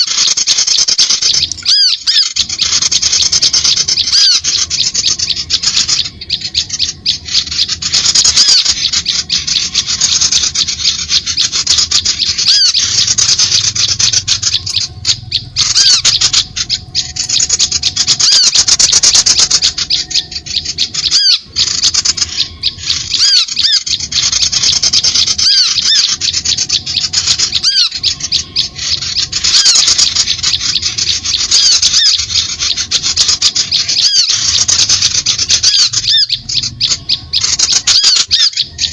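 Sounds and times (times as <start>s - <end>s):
songbirds chirping and chattering: 0.0s - 38.9s.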